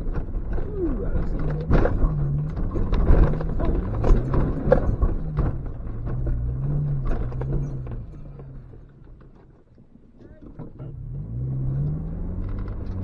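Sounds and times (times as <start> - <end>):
car engine pulling hard: 0.0 - 9.6, 10.3 - 13.0
knocks and bangs of car jolting: 0.0 - 11.0.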